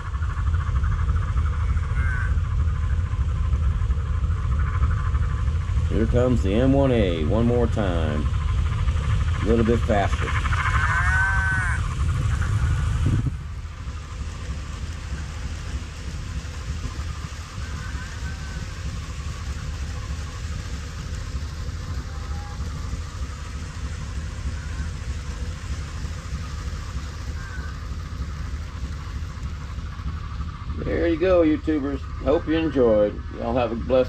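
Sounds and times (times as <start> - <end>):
model locomotive passing: 0.0 - 34.0
model train cars rumbling past: 0.0 - 34.0.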